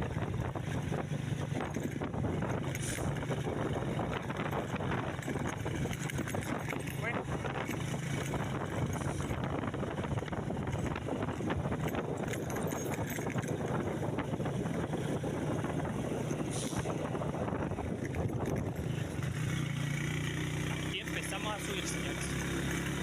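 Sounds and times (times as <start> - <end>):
wind noise on microphone: 0.0 - 19.9
vehicle engine running: 0.0 - 23.0
rattling: 0.2 - 21.4.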